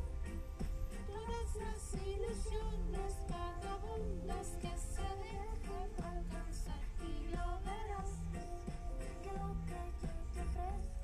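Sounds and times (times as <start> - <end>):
steady low rumble: 0.0 - 11.0
person singing a tune: 1.0 - 11.0.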